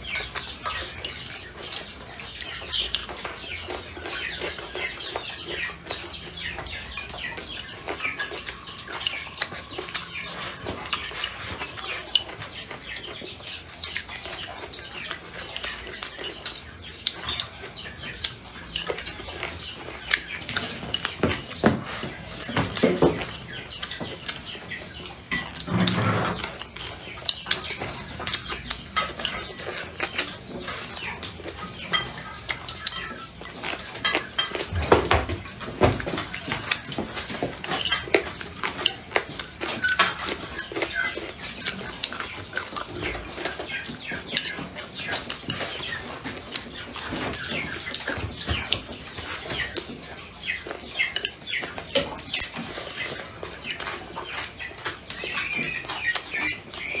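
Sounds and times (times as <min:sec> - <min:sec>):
chewing food: 0:00.0 - 0:57.0.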